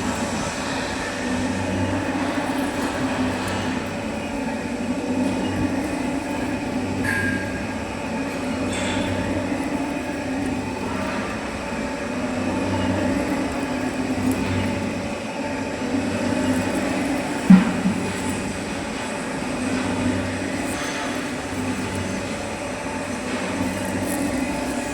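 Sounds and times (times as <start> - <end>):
lathe droning: 0.0 - 24.9.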